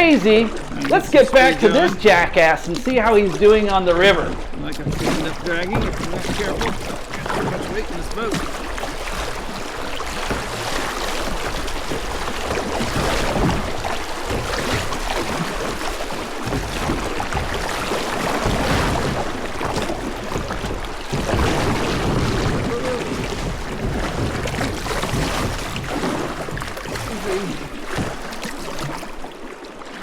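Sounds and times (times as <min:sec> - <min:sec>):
wind buffeting microphone: 0:00.0 - 0:28.3
paddle strokes splashing water: 0:00.0 - 0:30.0.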